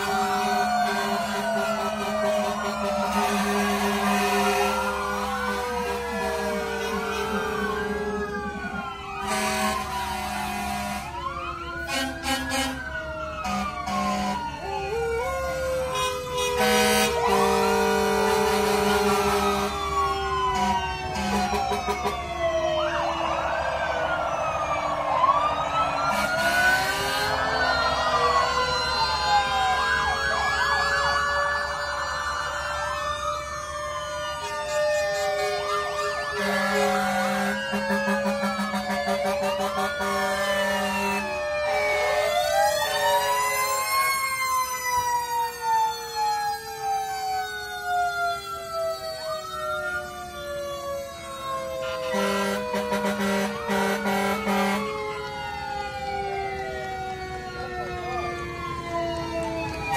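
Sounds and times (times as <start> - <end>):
fast warbling siren: 0.0 - 59.9
fire engine sirens wailing: 0.0 - 59.9.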